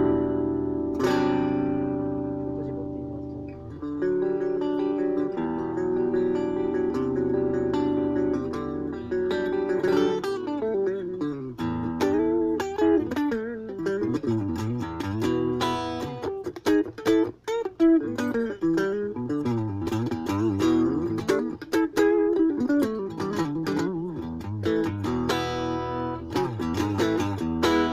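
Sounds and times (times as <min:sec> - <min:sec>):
electric guitar playing: 0:00.0 - 0:27.9.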